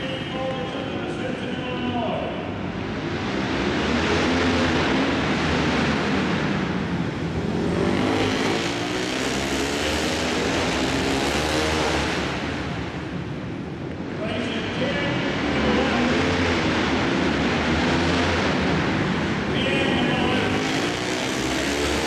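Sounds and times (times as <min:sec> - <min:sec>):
motorcycle engines racing: 0:00.0 - 0:22.0.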